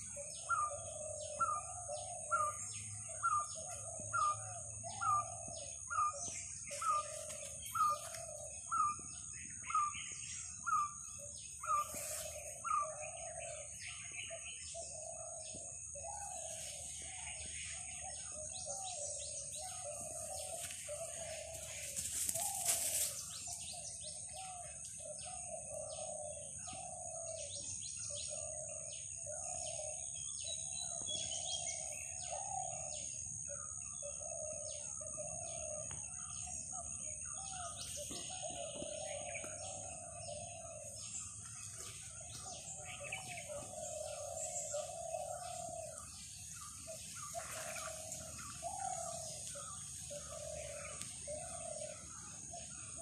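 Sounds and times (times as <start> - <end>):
birds chirping: 0.0 - 53.0
insect drone: 0.0 - 53.0
low repeated bird call: 0.0 - 53.0.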